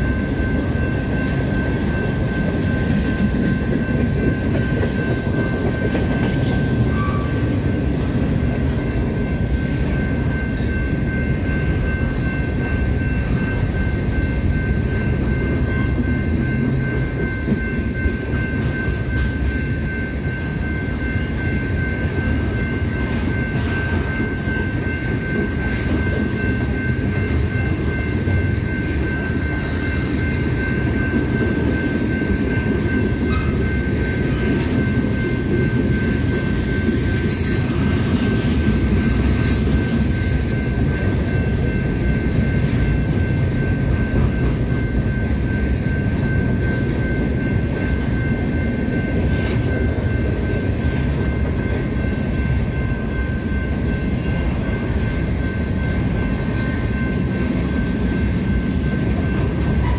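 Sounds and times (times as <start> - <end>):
train cars rumbling on track: 0.0 - 59.9.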